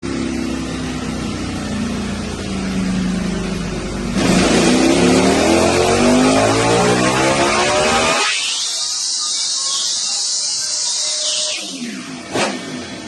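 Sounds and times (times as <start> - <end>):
motorcycle engine revving on dyno: 0.0 - 9.2, 11.2 - 13.0.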